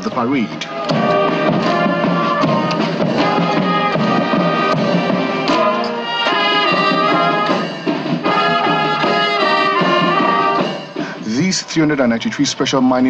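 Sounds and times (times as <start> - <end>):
band music with held notes: 0.0 - 13.0.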